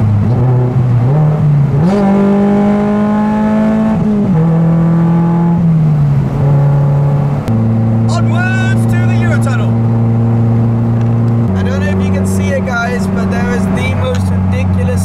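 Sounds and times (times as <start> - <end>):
car engine under load: 0.0 - 15.0.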